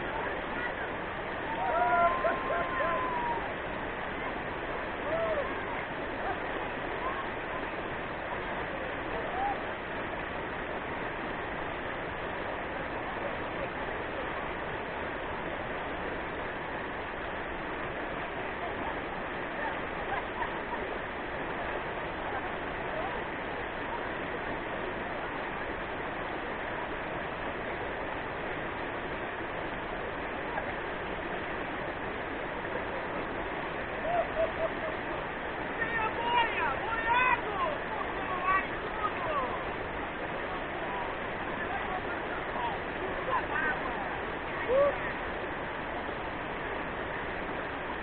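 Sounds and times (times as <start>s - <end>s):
river rapids rushing: 0.0s - 48.0s.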